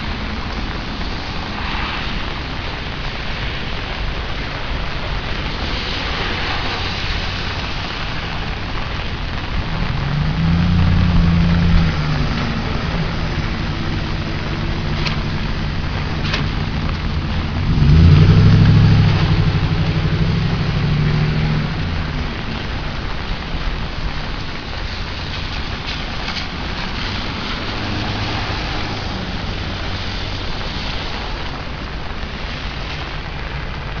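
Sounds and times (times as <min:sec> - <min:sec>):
rain hissing: 0:00.0 - 0:34.0
vehicle driving past on wet road: 0:00.0 - 0:34.0.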